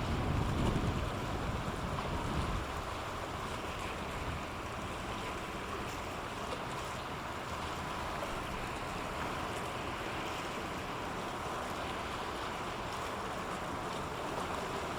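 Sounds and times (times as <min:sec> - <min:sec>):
wind by the sea: 0:00.0 - 0:14.9.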